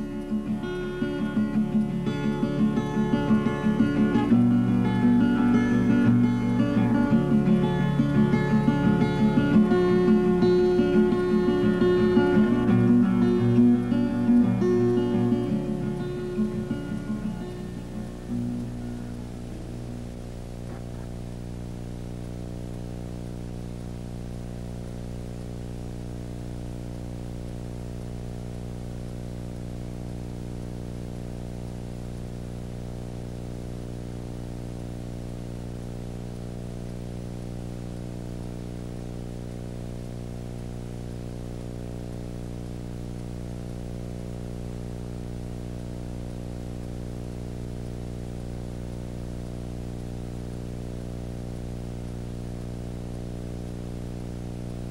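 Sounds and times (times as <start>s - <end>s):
electrical hum: 0.0s - 54.9s.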